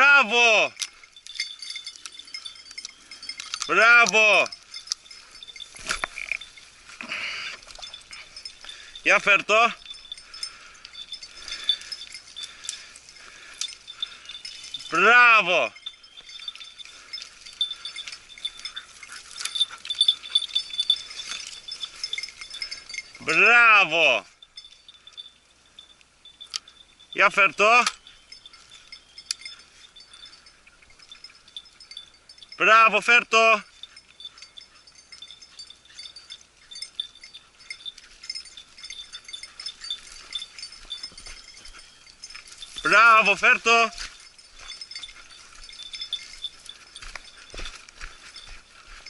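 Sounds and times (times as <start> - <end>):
small bell tinkling: 0.0 - 49.0.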